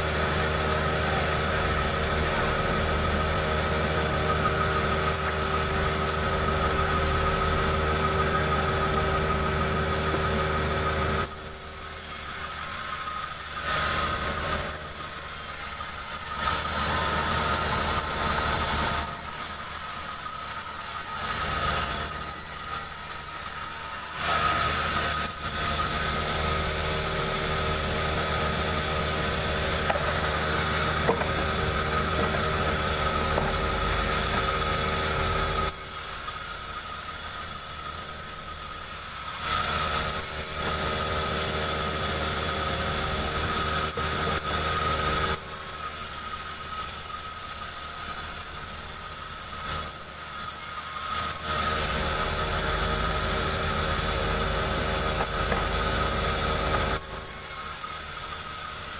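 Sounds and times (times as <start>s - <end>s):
chainsaw cutting a log: 0.0s - 58.9s.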